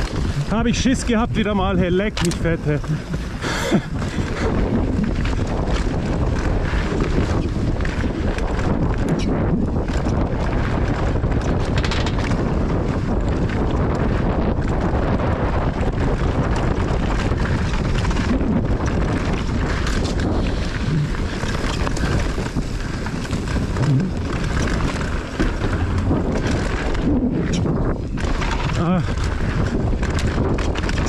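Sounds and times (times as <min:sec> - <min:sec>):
bike knocks and rattles: 0:00.0 - 0:31.0
bike tyre noise: 0:00.0 - 0:31.0
wind buffeting microphone: 0:00.0 - 0:31.0.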